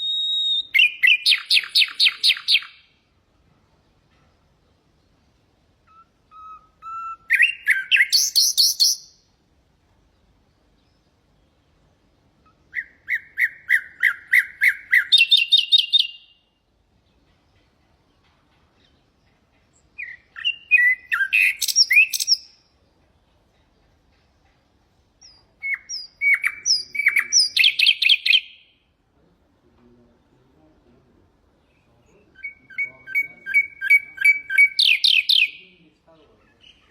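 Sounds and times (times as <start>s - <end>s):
nightingale singing: 0.0s - 9.4s, 10.0s - 29.0s, 31.5s - 36.9s.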